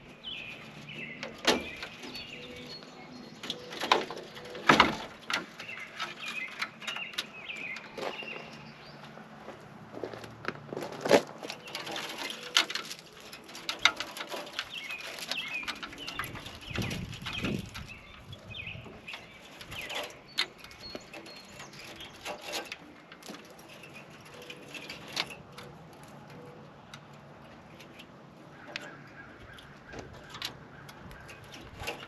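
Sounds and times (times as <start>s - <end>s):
birds chirping: 0.0s - 10.4s, 11.4s - 32.0s.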